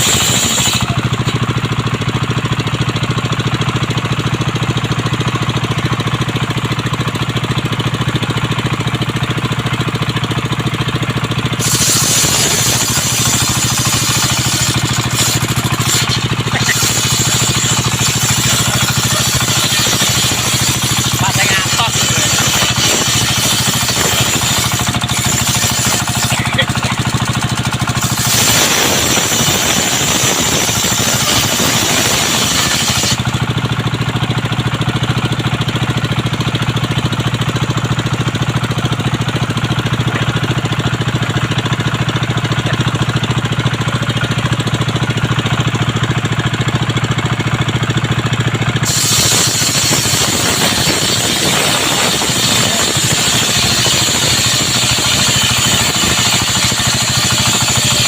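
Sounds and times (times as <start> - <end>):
sawmill running: 0.0 - 58.0.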